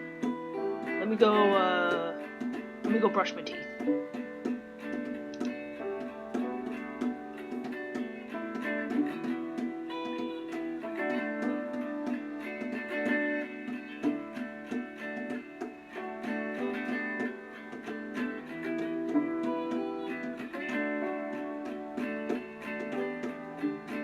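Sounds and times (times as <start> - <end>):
plucked acoustic guitar: 0.0 - 24.0.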